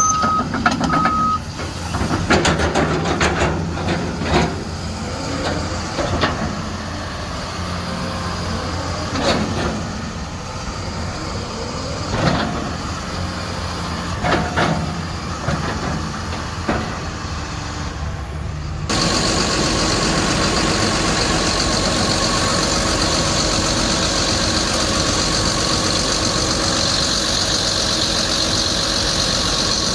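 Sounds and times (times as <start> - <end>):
excavator diesel engine running: 0.0 - 29.9
high engine whine: 0.0 - 29.9.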